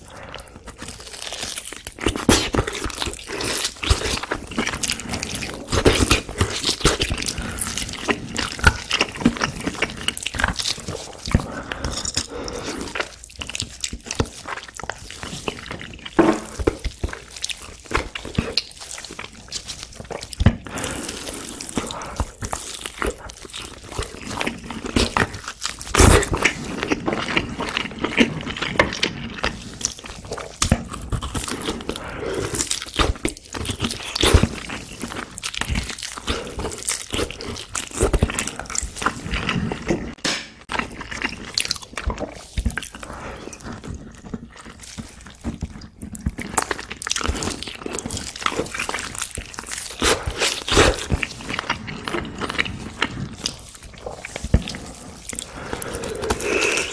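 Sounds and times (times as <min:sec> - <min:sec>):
close biting and chewing: 0:00.0 - 0:56.9.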